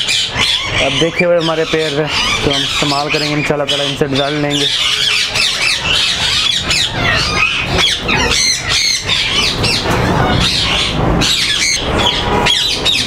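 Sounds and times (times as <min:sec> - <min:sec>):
parakeets squawking and screeching: 0:00.0 - 0:13.0.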